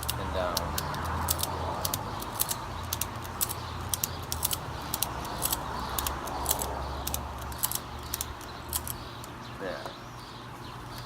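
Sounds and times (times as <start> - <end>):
ratchet strap clicking: 0.0 - 9.4.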